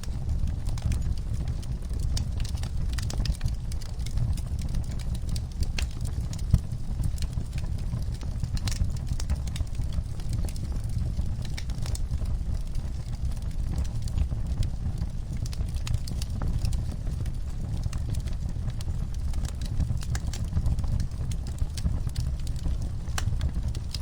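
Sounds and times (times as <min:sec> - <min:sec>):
low steady fire rumble: 0:00.0 - 0:24.0
wood fire crackling: 0:00.0 - 0:24.0.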